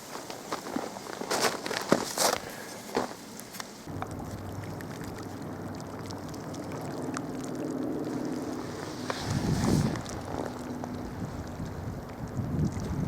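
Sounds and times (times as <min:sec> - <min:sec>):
low mechanical hum with tones: 0:01.9 - 0:13.0.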